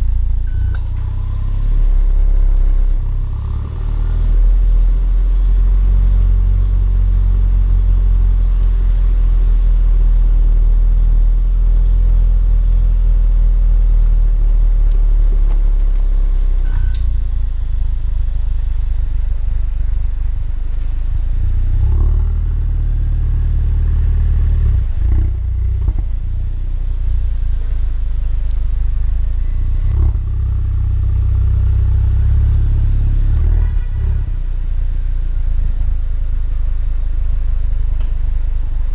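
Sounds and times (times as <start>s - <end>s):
car engine and exhaust rumbling: 0.0s - 38.9s.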